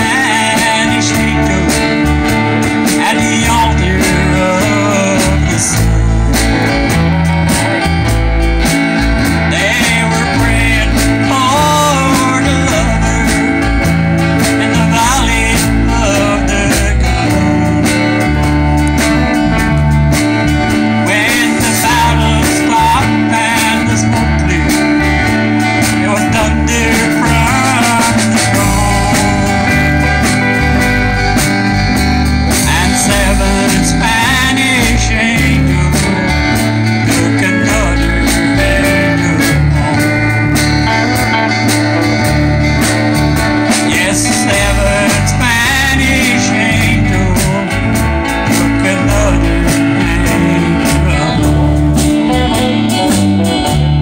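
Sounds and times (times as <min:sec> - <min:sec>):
acoustic rhythm guitar: 0:00.0 - 0:54.0
bass guitar: 0:00.0 - 0:54.0
drums: 0:00.0 - 0:54.0
electric lead guitar: 0:00.0 - 0:54.0.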